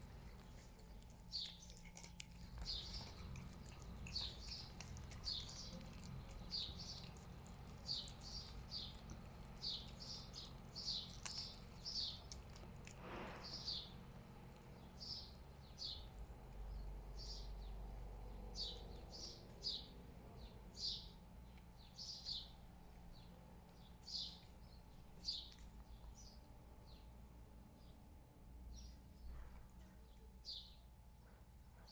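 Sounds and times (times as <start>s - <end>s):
small bird chirping: 0.0s - 27.2s, 30.0s - 30.9s
low background rumble: 0.0s - 31.9s.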